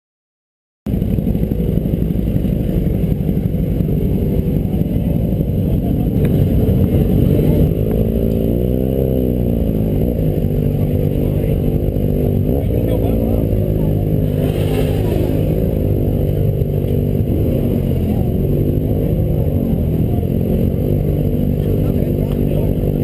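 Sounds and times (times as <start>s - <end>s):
motorcycle engine running: 0.9s - 23.0s.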